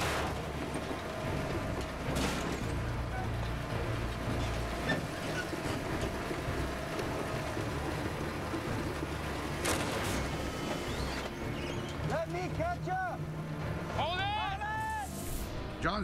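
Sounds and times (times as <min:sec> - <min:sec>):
tow trucks rumbling: 0:00.0 - 0:14.5
dramatic background music: 0:00.0 - 0:16.0.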